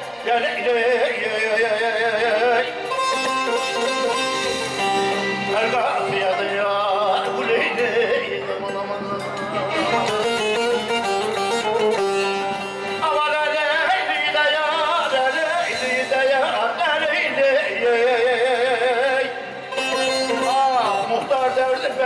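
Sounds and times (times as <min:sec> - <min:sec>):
amplified instrumental backing: 0:00.0 - 0:22.0
man singing into microphone: 0:00.0 - 0:22.0.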